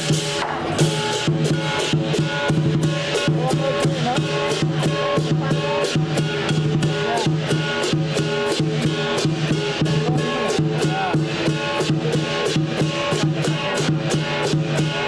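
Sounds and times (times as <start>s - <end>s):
big drum beating: 0.0s - 15.0s
cymbals and gongs clashing: 0.0s - 15.0s.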